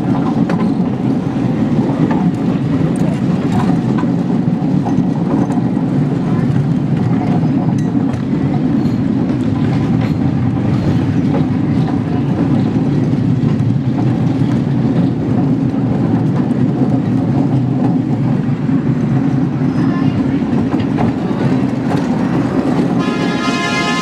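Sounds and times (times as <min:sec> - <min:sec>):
wheels rumbling on rails: 0:00.0 - 0:24.0.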